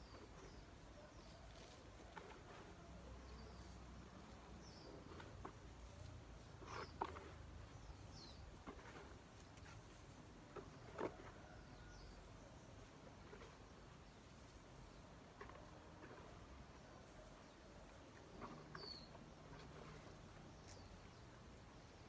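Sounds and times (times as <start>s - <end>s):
hands rustling garden soil: 0.0s - 22.0s.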